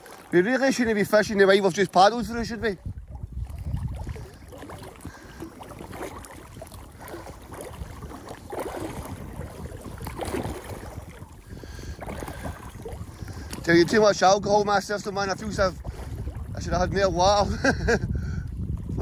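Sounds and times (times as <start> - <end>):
water splashing against float tube: 0.0 - 17.6.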